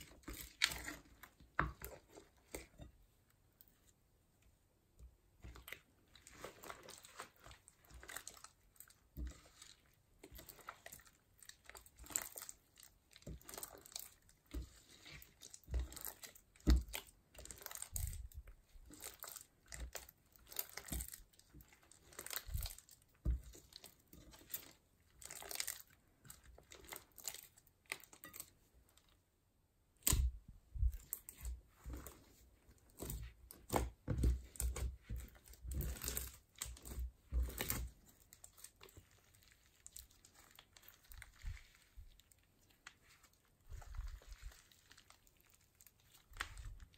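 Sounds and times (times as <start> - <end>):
slime squelching and crackling: 0.0 - 2.9, 5.2 - 29.3, 30.0 - 46.9.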